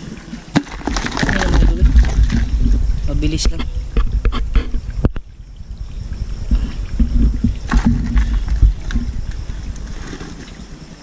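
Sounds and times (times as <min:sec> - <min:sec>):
water sloshing: 0:00.0 - 0:11.0.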